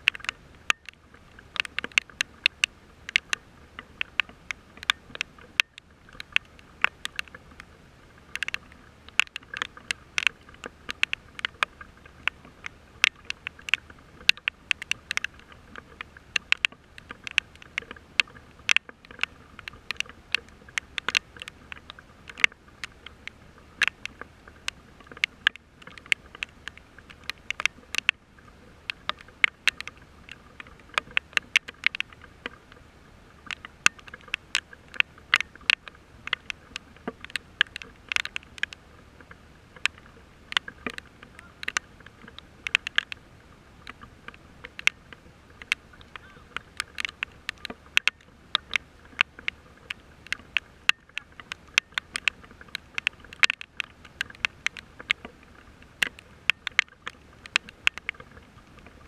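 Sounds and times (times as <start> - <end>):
faint rain hiss: 0.0 - 59.0
raindrops ticking on hard surface: 0.0 - 59.0.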